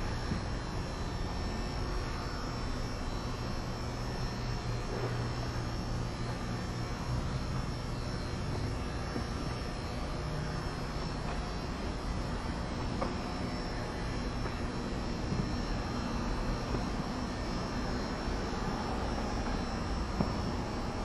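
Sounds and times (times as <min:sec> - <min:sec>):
low mechanical hum and rumble: 0:00.0 - 0:21.0.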